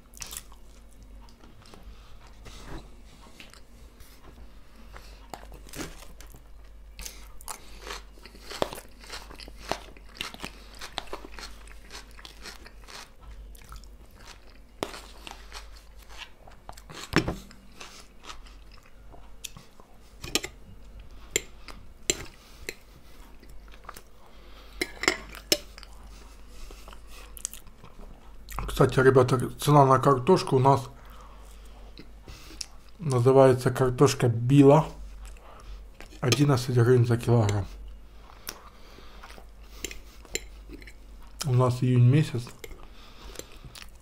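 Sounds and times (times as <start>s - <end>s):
man chewing food: 0.0s - 28.7s, 31.0s - 33.0s, 35.0s - 36.3s, 37.4s - 41.5s, 42.4s - 44.0s.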